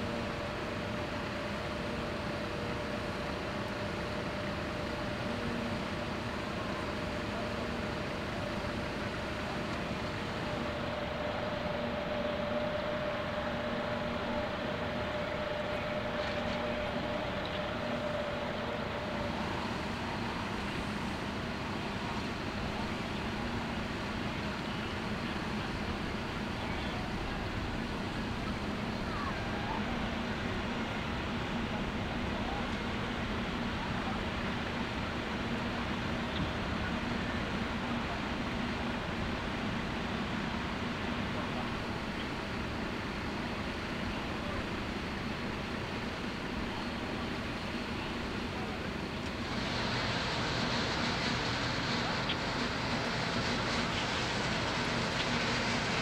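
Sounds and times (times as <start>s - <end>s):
broad rushing noise: 0.0s - 56.0s
machinery drone with whine: 0.0s - 56.0s.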